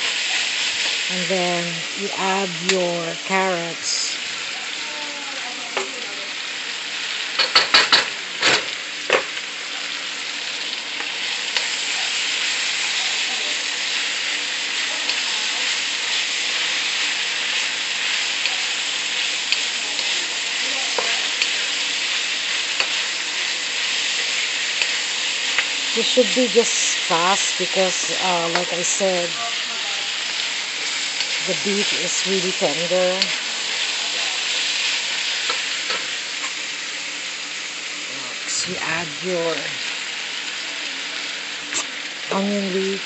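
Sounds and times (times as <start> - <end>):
food sizzling in a wok: 0.0 - 43.0.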